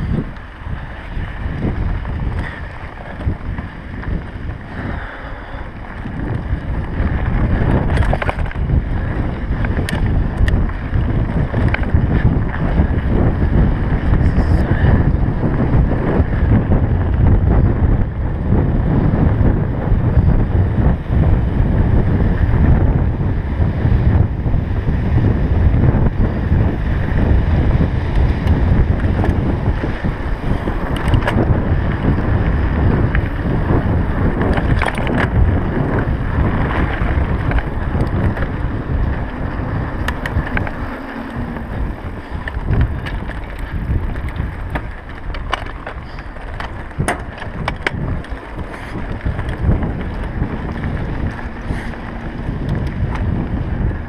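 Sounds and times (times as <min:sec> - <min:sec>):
bike clicks and rattles: 0:00.0 - 0:54.0
bike tyres crunching on gravel: 0:00.0 - 0:54.0
wind buffeting microphone: 0:00.0 - 0:54.0.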